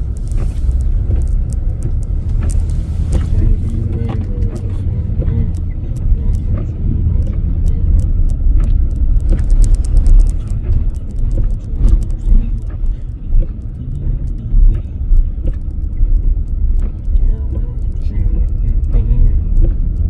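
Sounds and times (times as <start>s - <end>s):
engine and tyres rumbling: 0.0s - 20.0s
sharp clicks and crackles: 0.0s - 20.0s.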